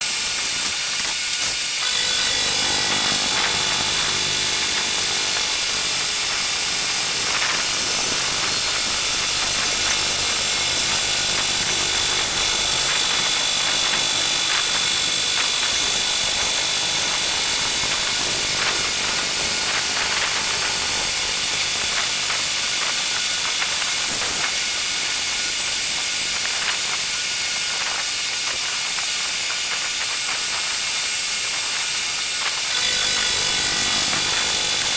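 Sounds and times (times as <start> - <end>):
milling machine cutting metal: 0.0 - 34.9.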